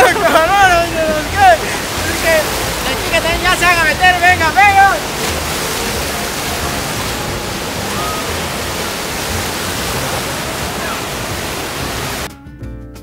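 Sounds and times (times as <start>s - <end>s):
water churning and splashing: 0.0s - 12.3s.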